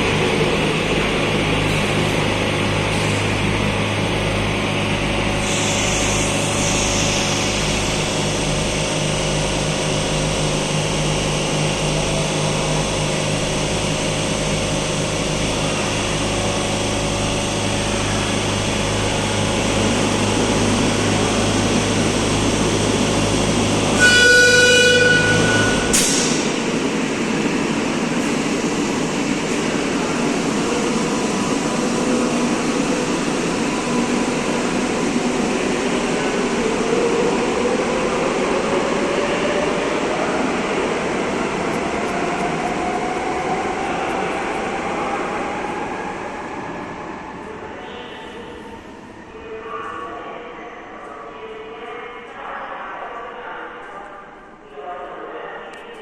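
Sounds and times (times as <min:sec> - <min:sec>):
train electrical hum and rumble: 0:00.0 - 0:56.0.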